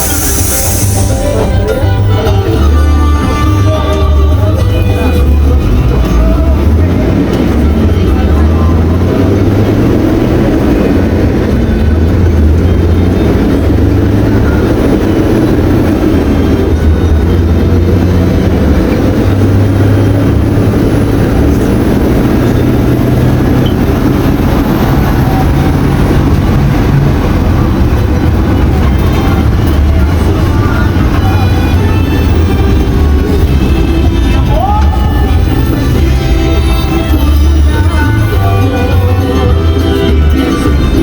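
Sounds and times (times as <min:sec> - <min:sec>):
bus engine droning: 0:00.0 - 0:41.0.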